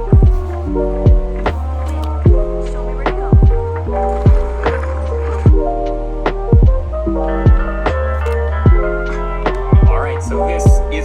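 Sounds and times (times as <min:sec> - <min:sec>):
chill hip-hop beat: 0:00.0 - 0:11.0
sustained keyboard chords: 0:00.0 - 0:11.0.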